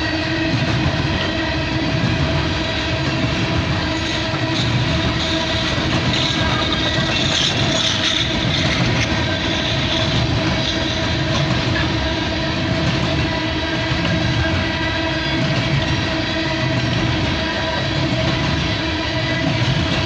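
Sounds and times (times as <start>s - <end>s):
freight train cars rolling past: 0.0s - 20.0s.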